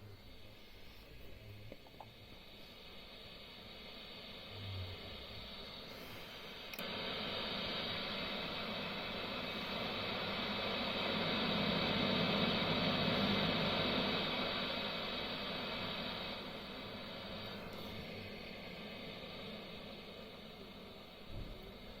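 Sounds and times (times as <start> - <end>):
guitar amp hiss and hum: 0.0 - 22.0.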